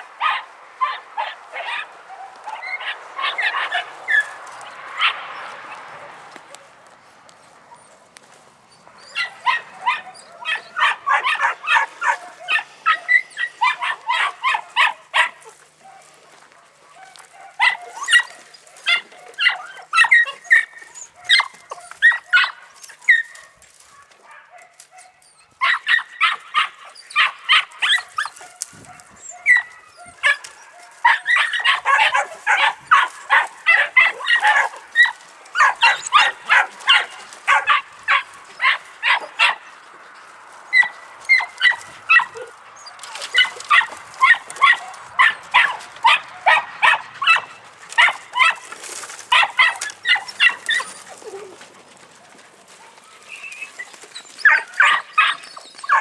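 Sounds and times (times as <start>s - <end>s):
puppies yapping: 0.0s - 56.0s.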